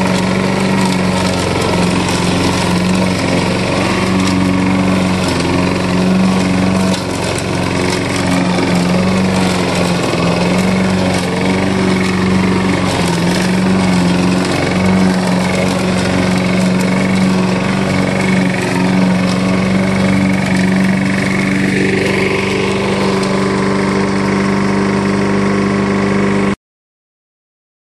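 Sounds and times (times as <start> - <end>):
lawn mower engine running: 0.0 - 26.6.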